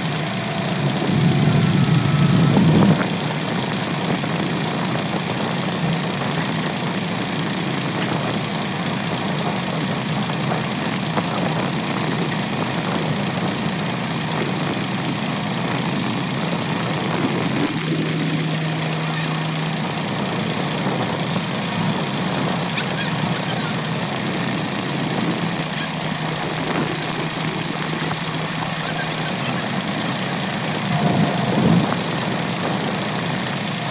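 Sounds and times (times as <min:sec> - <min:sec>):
harvester engine running: 0:00.0 - 0:33.9.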